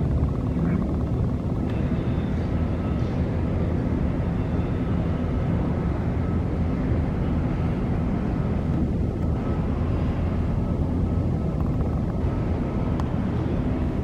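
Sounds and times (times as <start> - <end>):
faint steady hum: 0.0 - 14.0
jet airliner cabin rumble: 0.0 - 14.0.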